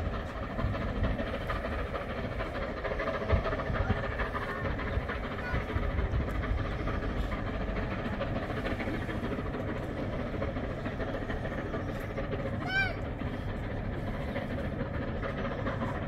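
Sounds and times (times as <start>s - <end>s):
distant steam train rumble: 0.0s - 16.0s.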